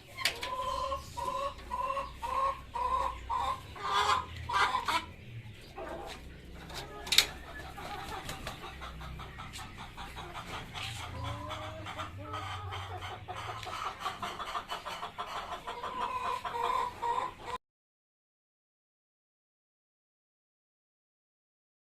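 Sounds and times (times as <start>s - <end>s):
chickens clucking: 0.0s - 17.6s.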